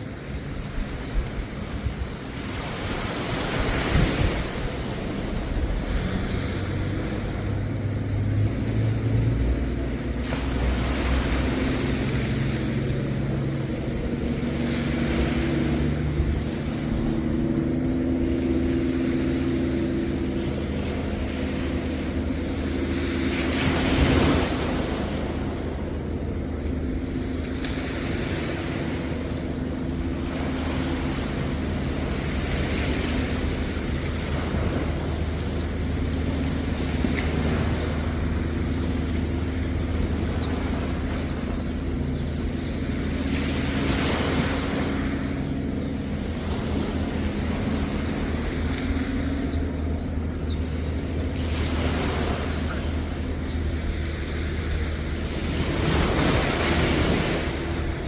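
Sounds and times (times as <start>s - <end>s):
low engine hum: 0.0s - 58.0s
sea waves washing onto beach: 0.0s - 58.0s.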